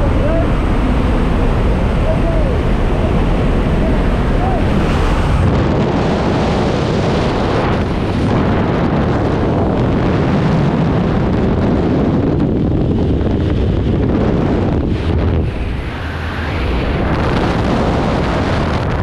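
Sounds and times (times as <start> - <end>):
airplane engine noise: 0.0 - 19.0
heavy wind buffeting microphone: 0.0 - 19.0.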